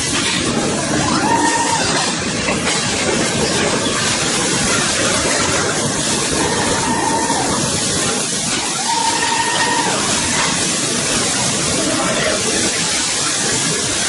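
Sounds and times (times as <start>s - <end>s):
factory machinery running: 0.0s - 14.0s.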